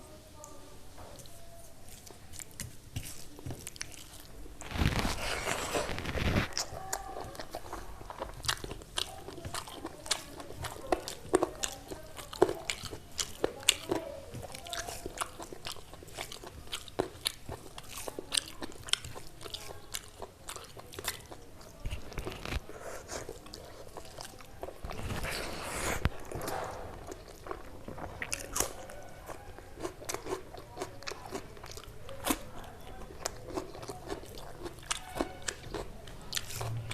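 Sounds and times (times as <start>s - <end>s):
crunchy chewing: 1.0s - 36.9s.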